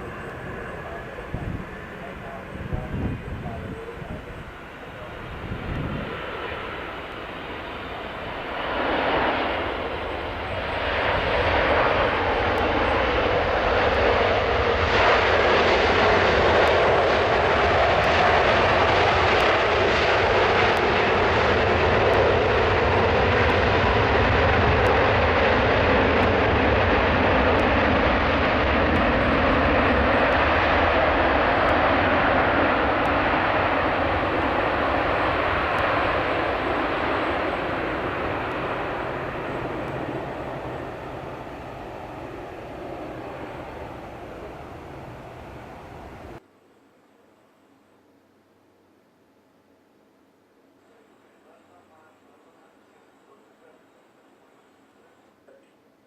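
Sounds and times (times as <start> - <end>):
jet engines roaring in reverse thrust: 0.0 - 46.4.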